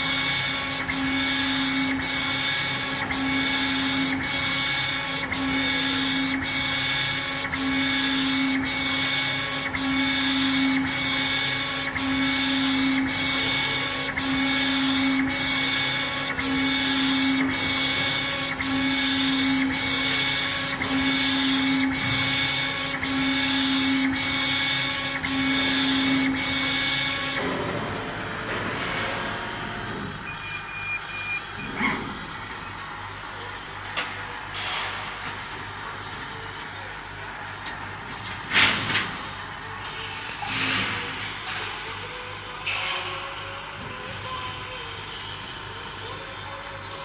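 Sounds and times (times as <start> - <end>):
steady machine hum: 0.0 - 47.0
stepper motors whining: 0.0 - 47.0.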